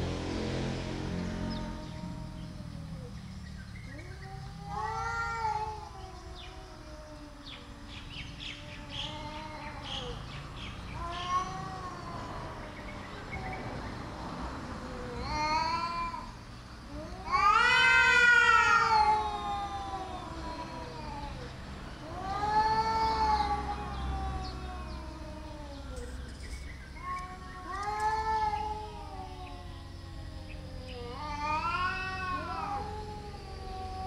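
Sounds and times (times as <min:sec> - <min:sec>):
cats yowling: 0:00.9 - 0:34.0.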